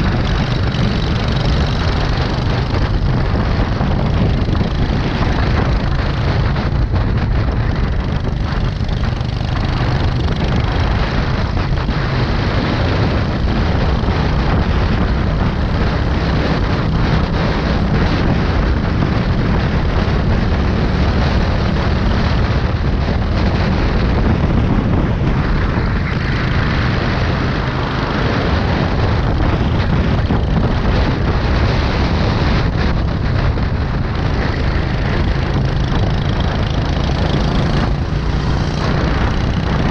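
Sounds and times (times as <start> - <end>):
go-kart engine running hard: 0.0 - 39.9
wind rushing over microphone: 0.0 - 39.9.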